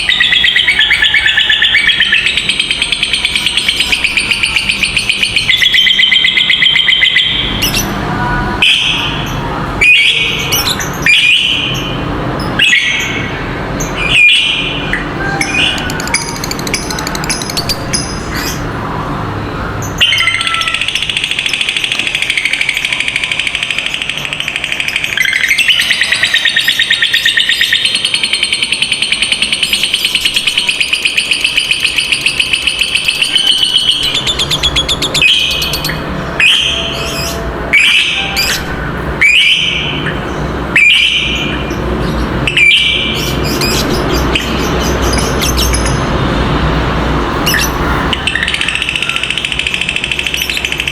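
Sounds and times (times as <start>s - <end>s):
lovebird chattering: 0.0s - 8.0s, 8.6s - 18.7s, 19.8s - 46.1s, 47.5s - 50.9s.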